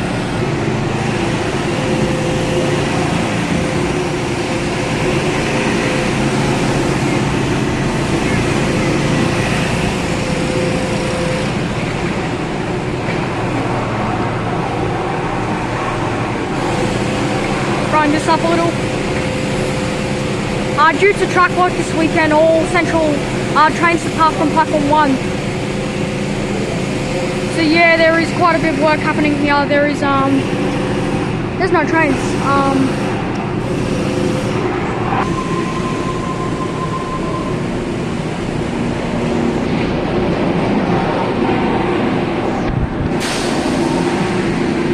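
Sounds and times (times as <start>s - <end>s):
electric train rumbling: 0.0s - 44.9s
heavy machinery running: 0.0s - 44.9s
steady hum: 0.0s - 44.9s
thin high whine: 0.0s - 44.9s.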